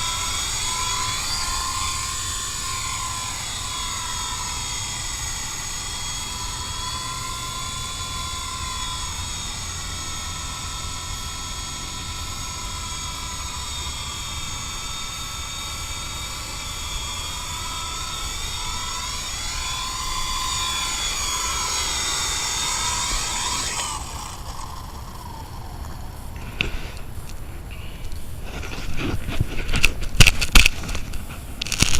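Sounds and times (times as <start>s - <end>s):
helicopter motor and rotor whining: 0.0s - 31.9s.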